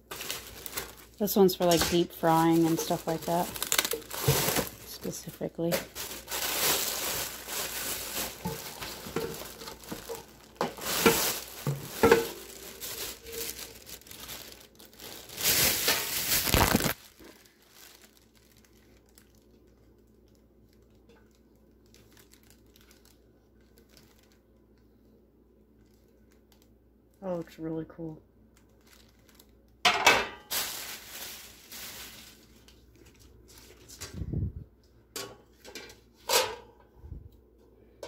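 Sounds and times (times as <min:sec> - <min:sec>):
plastic wrapping crinkling: 0:00.0 - 0:25.1, 0:25.7 - 0:26.8, 0:28.4 - 0:29.8, 0:30.4 - 0:34.2.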